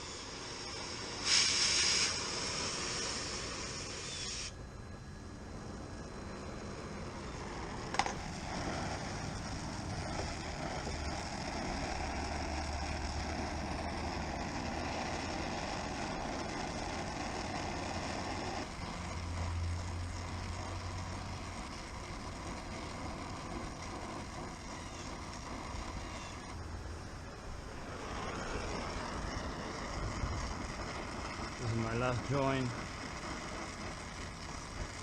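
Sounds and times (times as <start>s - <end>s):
torch flame hissing: 0.0s - 35.0s.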